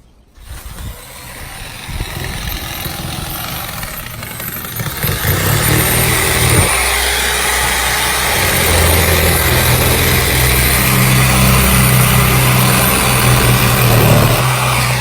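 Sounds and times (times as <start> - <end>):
jigsaw cutting into tree trunk: 0.4 - 15.0.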